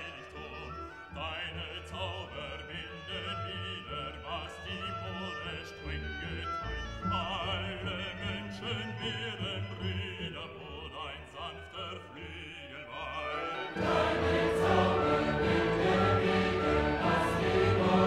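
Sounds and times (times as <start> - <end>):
classical music with operatic singing: 0.0 - 18.0.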